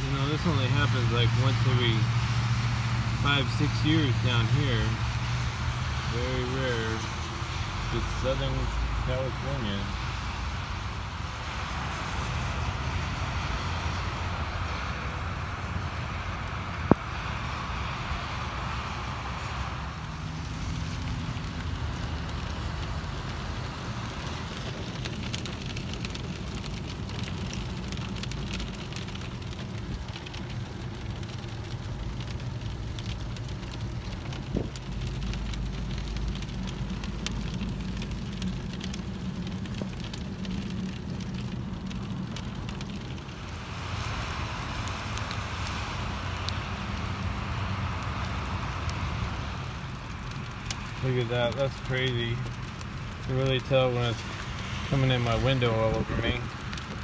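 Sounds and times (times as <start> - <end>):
hail pelting a car: 0.0 - 57.0.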